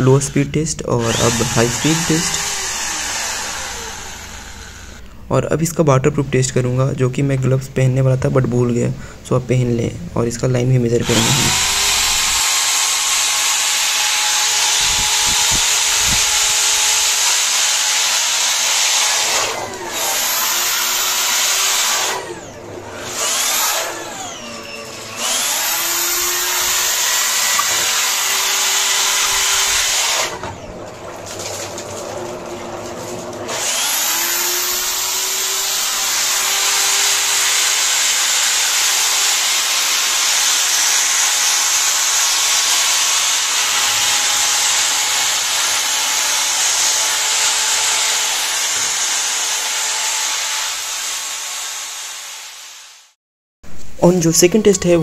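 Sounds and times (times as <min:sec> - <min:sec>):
electric drill whining: 0:01.0 - 0:05.1, 0:11.0 - 0:53.2.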